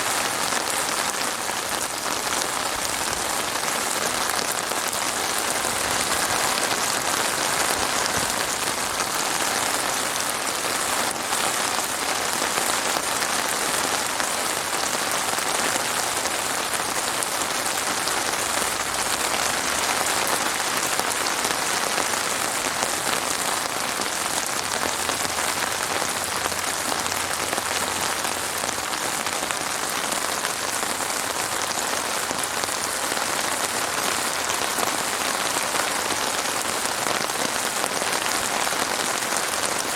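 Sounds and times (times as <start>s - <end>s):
heavy rain on hard surface: 0.0s - 39.9s.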